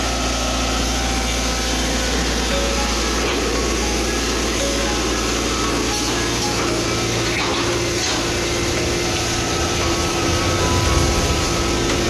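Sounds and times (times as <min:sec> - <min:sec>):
excavator diesel engine running: 0:00.0 - 0:12.0
steady whine: 0:00.0 - 0:12.0.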